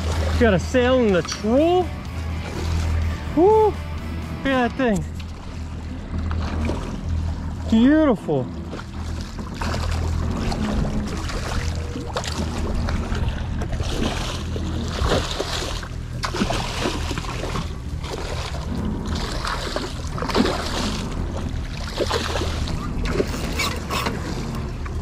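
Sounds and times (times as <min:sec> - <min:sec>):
outboard motors idling: 0:00.0 - 0:25.0
water splashing: 0:00.0 - 0:25.0.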